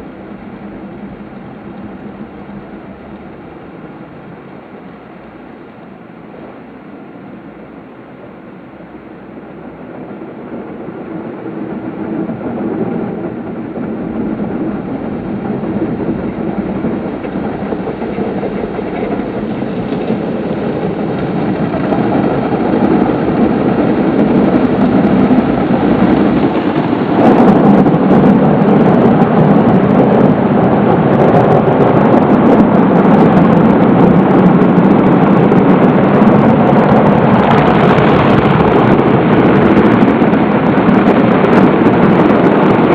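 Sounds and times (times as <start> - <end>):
car wash machine rushing: 0.0 - 42.9.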